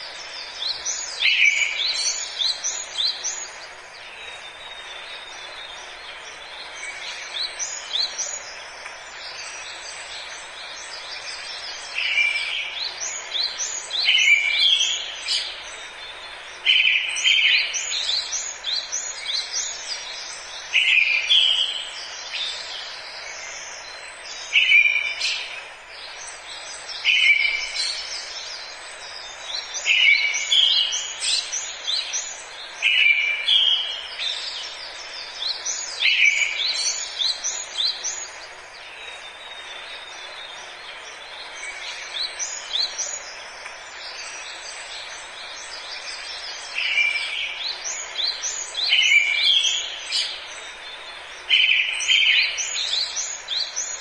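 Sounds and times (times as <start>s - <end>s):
birds chirping faintly: 0.0s - 54.0s
steady background hiss: 0.0s - 54.0s.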